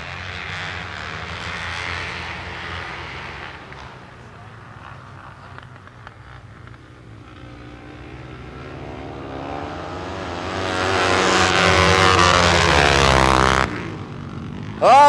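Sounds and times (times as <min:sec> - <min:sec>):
racing motorcycles accelerating: 0:00.0 - 0:15.0.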